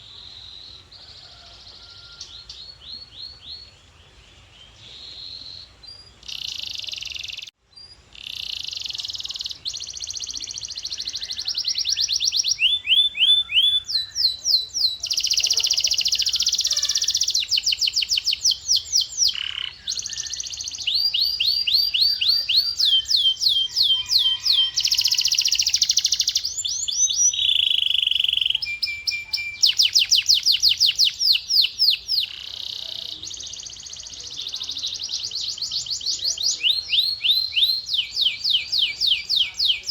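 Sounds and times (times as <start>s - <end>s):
canary singing trills: 4.4s - 39.9s.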